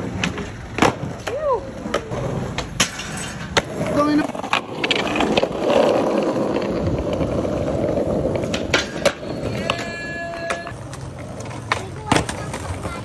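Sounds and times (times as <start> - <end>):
skateboard clacks: 0.0 - 13.0
skateboard wheels rolling on asphalt: 0.0 - 13.0.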